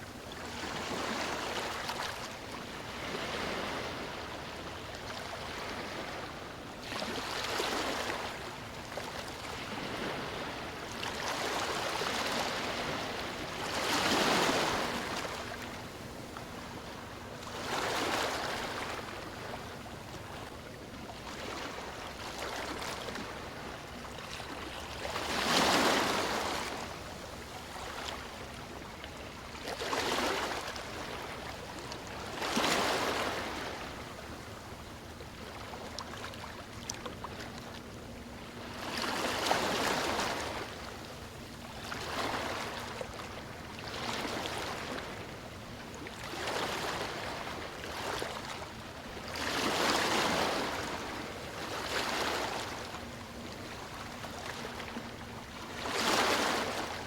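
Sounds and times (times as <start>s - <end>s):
waves breaking on a beach: 0.0s - 57.0s.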